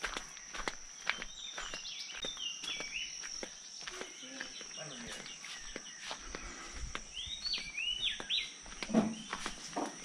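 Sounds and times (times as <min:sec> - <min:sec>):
light footsteps: 0:00.0 - 0:10.0.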